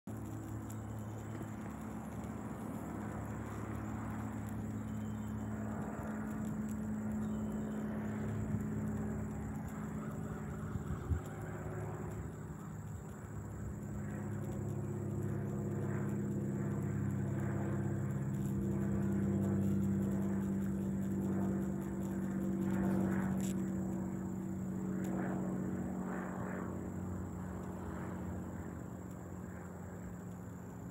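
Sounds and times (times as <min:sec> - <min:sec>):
propeller plane droning overhead: 0:00.0 - 0:30.9.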